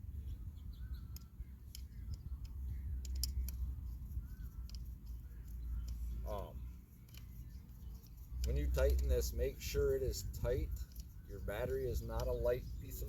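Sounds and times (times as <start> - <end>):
steady low rumble: 0.0 - 13.0
hand tools clicking and tapping: 1.1 - 13.0.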